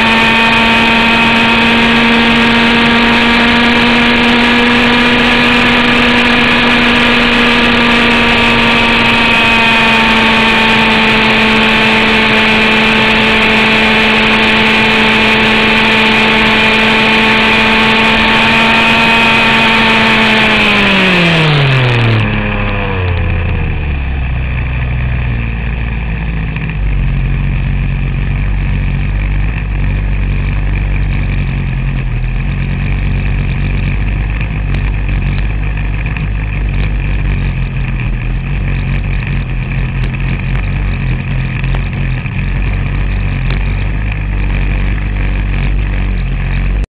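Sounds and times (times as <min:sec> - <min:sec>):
model helicopter engine running: 0:00.0 - 0:46.9.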